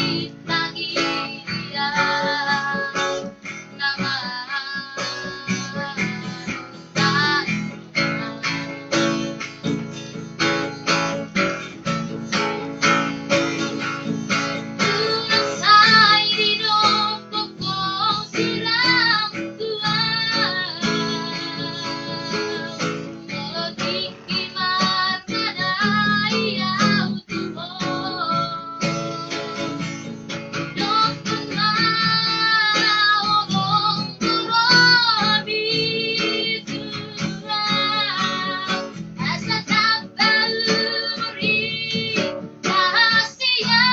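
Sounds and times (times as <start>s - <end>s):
person singing high-pitched: 0.0s - 8.7s, 14.8s - 29.9s, 30.8s - 43.9s
strummed acoustic guitar: 0.0s - 43.9s.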